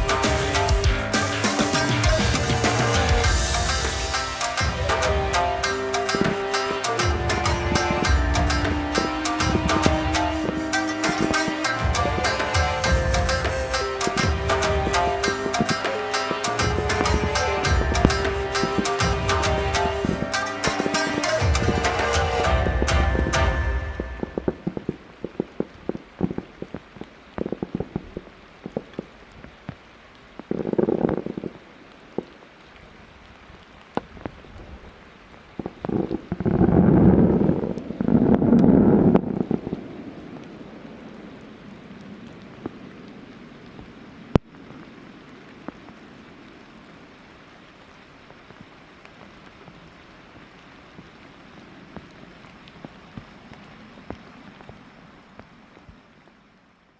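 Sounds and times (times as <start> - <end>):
fireworks crackling: 0.0 - 32.5, 33.1 - 46.5
rain hiss: 0.0 - 56.9.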